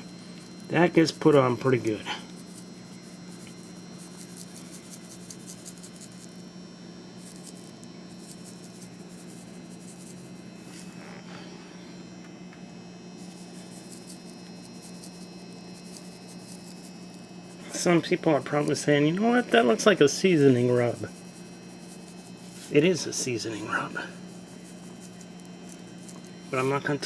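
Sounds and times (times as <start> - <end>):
room fan humming: 0.0 - 27.0.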